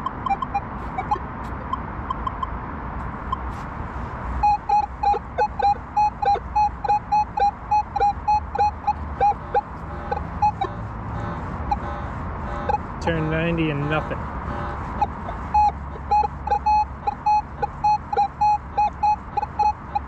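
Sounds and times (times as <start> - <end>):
metal detector beeps: 0.0 - 2.5, 4.4 - 10.7, 11.7 - 20.0.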